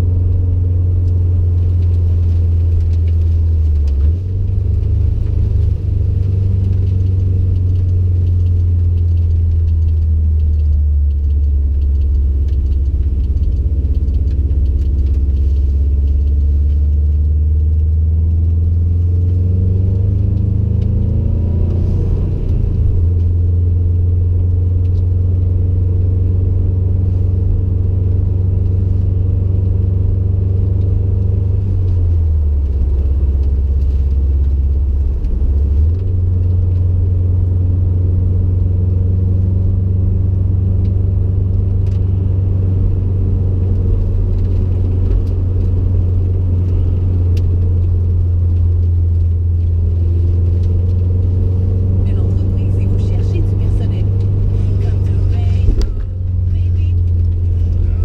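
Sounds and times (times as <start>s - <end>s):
car exhaust rumble: 0.0s - 58.0s.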